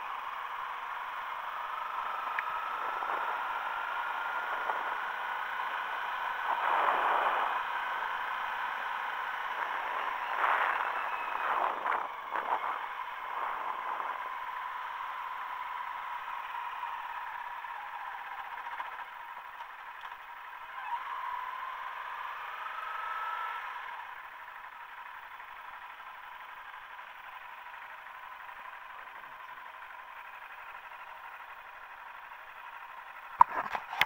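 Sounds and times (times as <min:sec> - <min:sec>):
faint motorcycle engine: 0:00.0 - 0:34.0.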